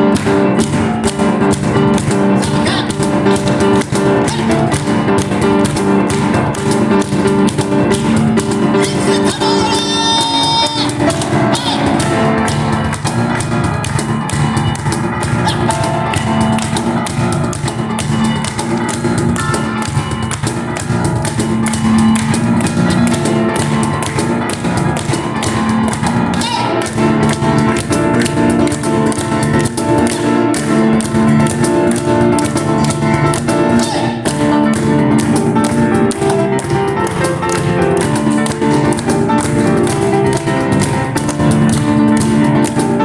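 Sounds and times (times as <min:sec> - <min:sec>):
piano playing: 0:00.0 - 0:43.0
rapid cajon strikes: 0:00.0 - 0:43.0.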